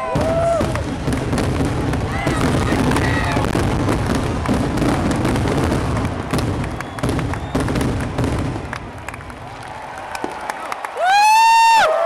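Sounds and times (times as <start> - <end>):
fireworks bursting: 0.0 - 10.7
fireworks popping and crackling: 0.0 - 11.2.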